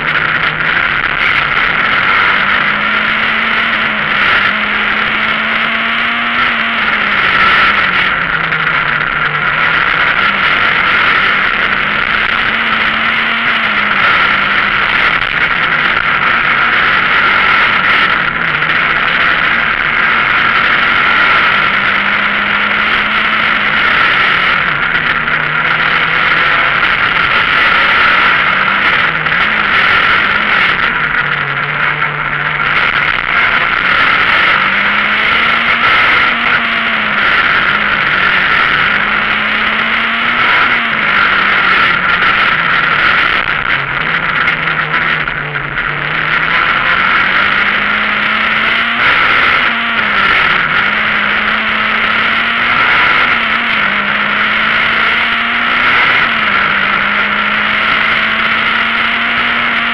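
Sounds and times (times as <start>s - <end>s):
rally car engine revving: 0.0s - 59.9s
road noise inside car cabin: 0.0s - 59.9s.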